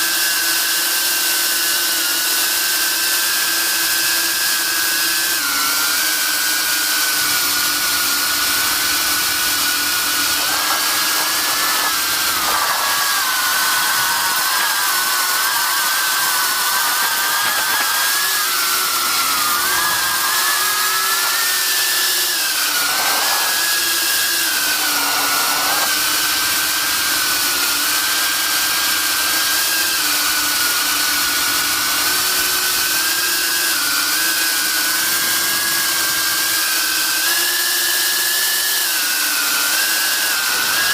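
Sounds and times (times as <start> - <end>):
drone motors whining: 3.3 - 40.9.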